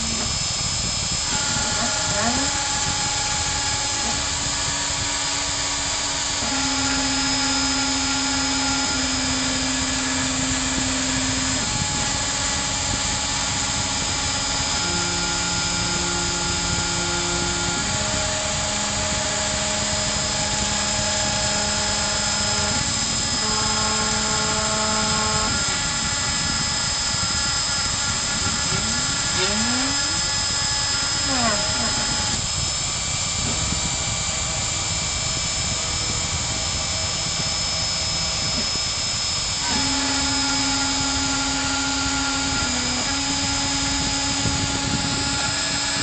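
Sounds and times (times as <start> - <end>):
router spindle whine: 0.0 - 46.0
wood cutting noise: 0.0 - 46.0.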